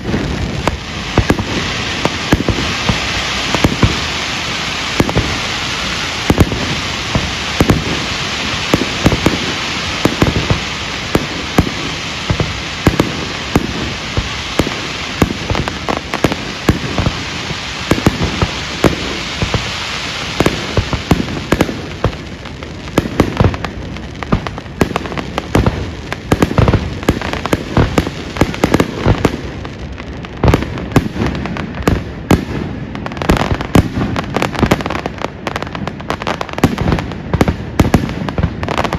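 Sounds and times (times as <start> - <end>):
crackling hiss of fireworks: 0.0 - 38.9
fireworks bursting: 0.0 - 38.9.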